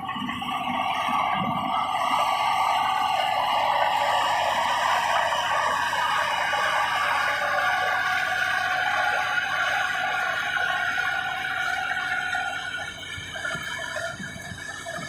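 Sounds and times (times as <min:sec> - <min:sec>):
bulldozer running: 0:00.0 - 0:15.0
high-pitched whine: 0:00.0 - 0:15.0.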